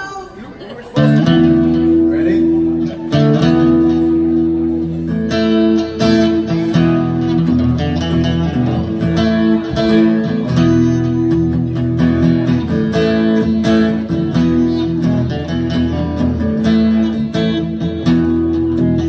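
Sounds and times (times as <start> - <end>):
acoustic guitars strumming: 0.9 - 19.0.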